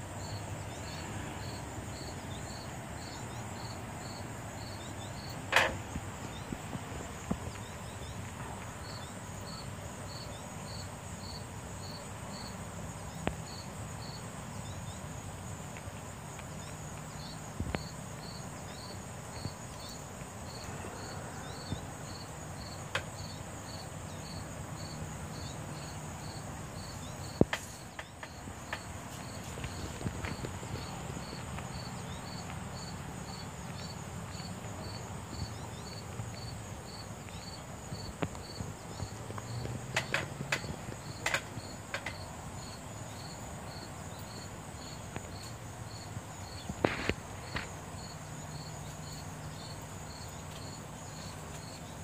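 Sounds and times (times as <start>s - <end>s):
cricket chirping: 0.0s - 52.0s
faint high insect hiss: 0.0s - 52.0s.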